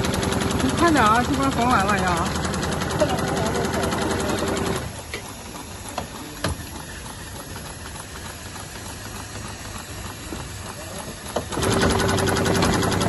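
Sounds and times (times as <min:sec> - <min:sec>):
low machine hum: 0:00.0 - 0:13.0
sewing machine stitching: 0:00.0 - 0:13.0
sharp mechanical clicks: 0:00.0 - 0:13.0.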